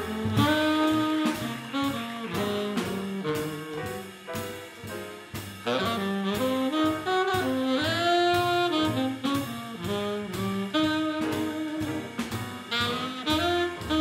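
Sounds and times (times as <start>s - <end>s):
double bass: 0.0s - 14.0s
drum kit beat: 0.0s - 14.0s
piano: 0.0s - 14.0s
saxophone melody: 0.0s - 14.0s.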